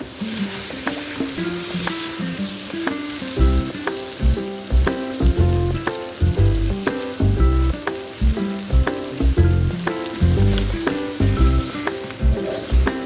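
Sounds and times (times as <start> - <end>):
food sizzling in a pan: 0.0 - 13.0
music with plucked melody: 0.0 - 13.0.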